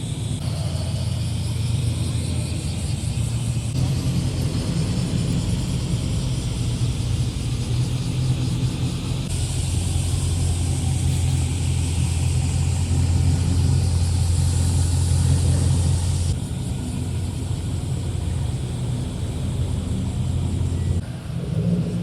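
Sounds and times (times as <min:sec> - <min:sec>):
car exhaust at low revs: 0:00.0 - 0:22.0.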